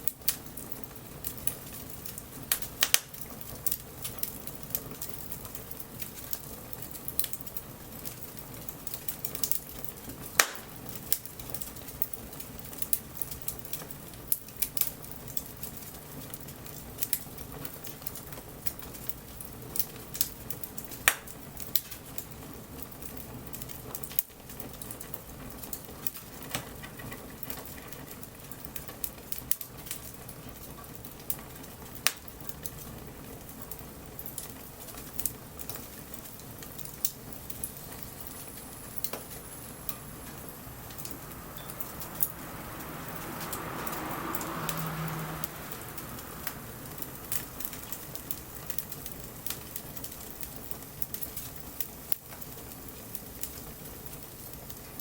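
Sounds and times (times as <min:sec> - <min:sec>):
bonfire crackling and popping: 0:00.0 - 0:55.0
light rain hiss: 0:00.0 - 0:55.0.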